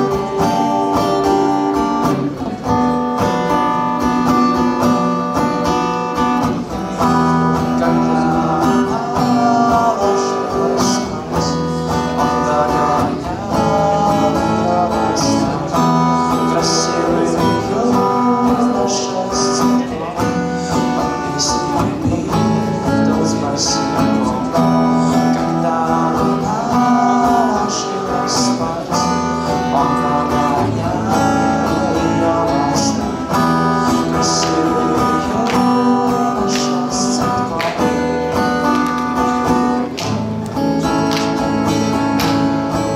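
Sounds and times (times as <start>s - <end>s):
acoustic guitar strumming: 0.0s - 42.9s
man singing: 0.0s - 42.9s.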